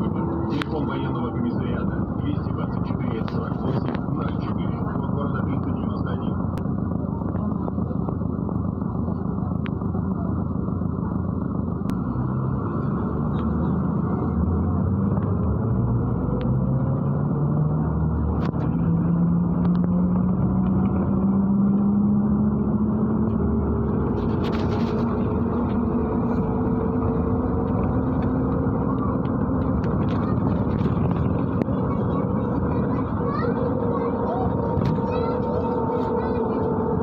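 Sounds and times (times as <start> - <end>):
bus engine running: 0.0 - 37.0
rising drivetrain whine: 0.0 - 37.0
road rumble: 0.0 - 37.0.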